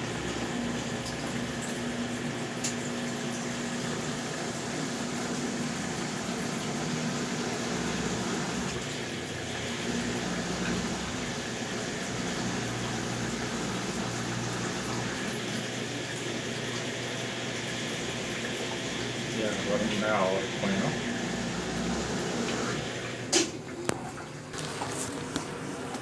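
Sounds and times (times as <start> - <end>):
water sloshing in washing machine: 0.0 - 26.0.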